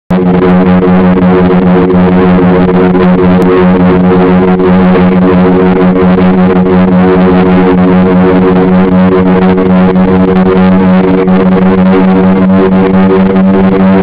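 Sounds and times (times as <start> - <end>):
model airplane engines droning: 0.1 - 14.0.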